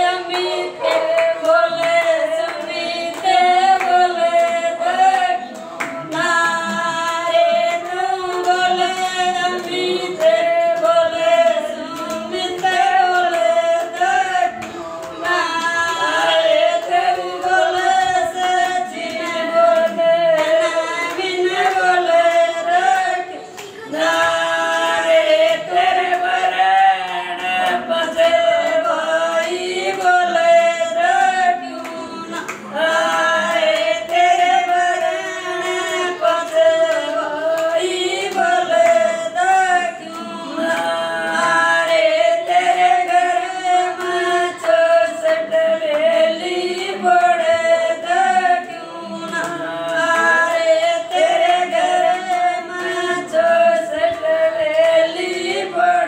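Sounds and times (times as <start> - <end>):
hand claps: 0.0 - 56.0
women singing folk song: 0.0 - 56.0.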